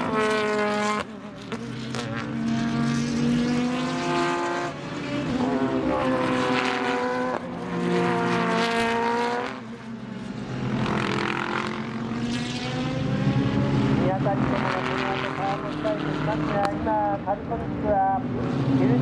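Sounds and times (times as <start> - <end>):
race cars passing at high revs: 0.0 - 19.0.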